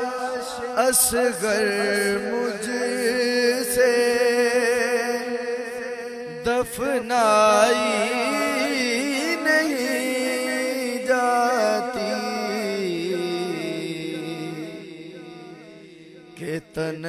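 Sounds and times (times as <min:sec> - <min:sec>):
man singing a lament: 0:00.0 - 0:17.0.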